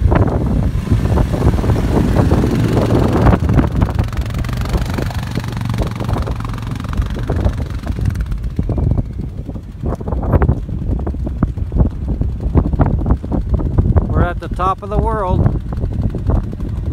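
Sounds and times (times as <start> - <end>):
atv engine running: 0.0 - 16.9
wind buffeting microphone: 0.0 - 16.9.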